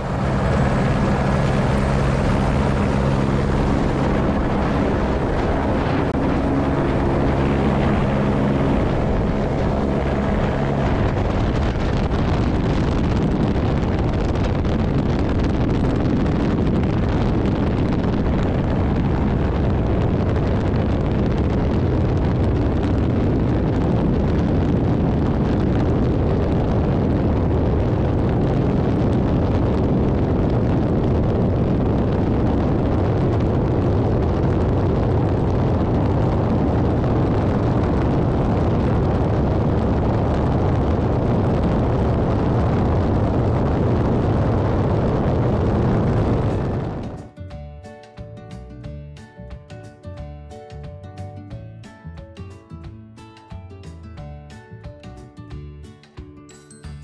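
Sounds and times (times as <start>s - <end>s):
helicopter engine and rotors: 0.0s - 47.3s.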